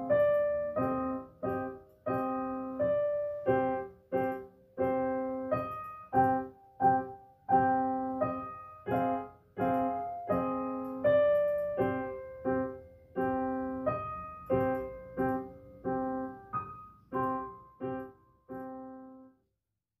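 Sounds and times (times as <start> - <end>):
piano chords: 0.0 - 19.4.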